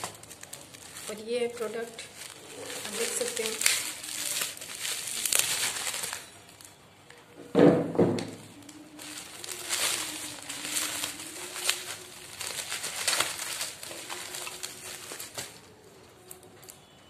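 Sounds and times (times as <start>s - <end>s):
bubble wrap crackles: 0.0s - 7.2s, 8.0s - 17.0s
bubble wrap crinkling: 0.0s - 7.2s, 8.0s - 17.0s.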